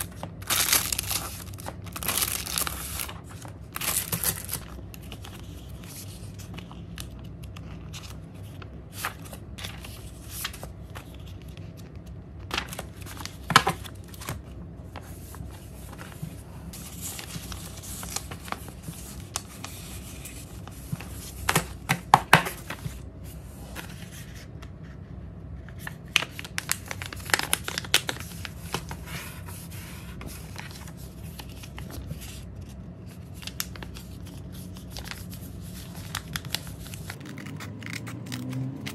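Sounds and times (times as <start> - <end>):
paper being folded: 0.0 - 14.4, 15.0 - 21.6, 25.7 - 38.9
paper rustling and crinkling: 0.0 - 25.0, 25.7 - 38.9.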